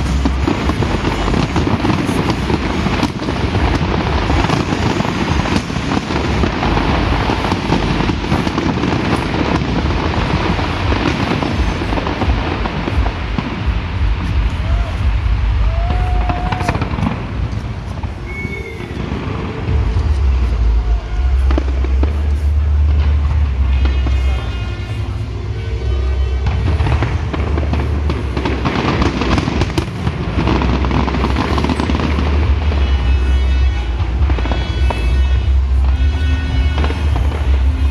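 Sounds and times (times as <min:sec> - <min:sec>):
fireworks crackling and rumbling: 0:00.0 - 0:37.9.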